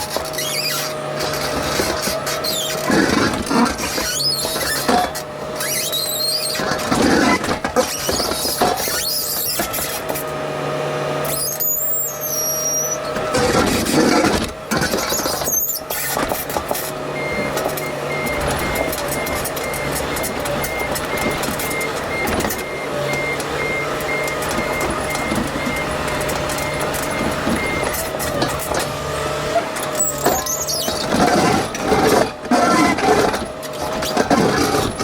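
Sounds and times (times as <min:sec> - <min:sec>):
high-pitched squeals: 0:00.0 - 0:10.1, 0:11.2 - 0:35.0
engine running: 0:00.0 - 0:35.0.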